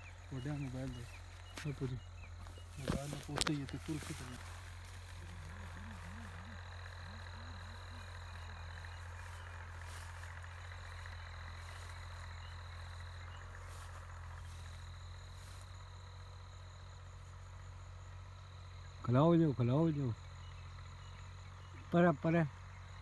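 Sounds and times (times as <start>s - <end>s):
high even trill of frogs or insects: 0.0s - 23.0s
steady low hum: 0.0s - 23.0s.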